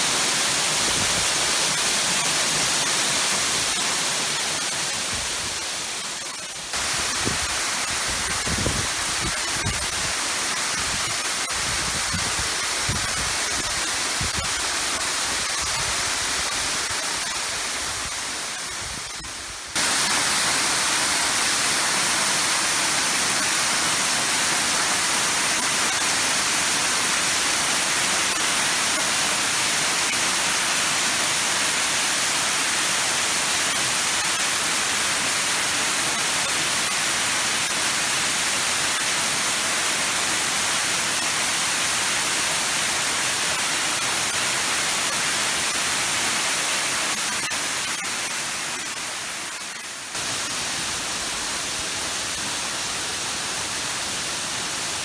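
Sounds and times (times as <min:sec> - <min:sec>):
waterfall rushing onto rocks: 0:00.0 - 0:55.0.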